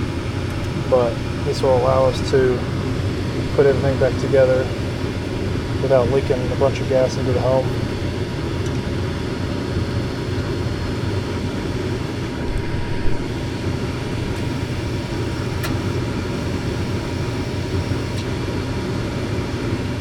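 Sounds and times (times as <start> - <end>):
furnace fan running: 0.0 - 20.0.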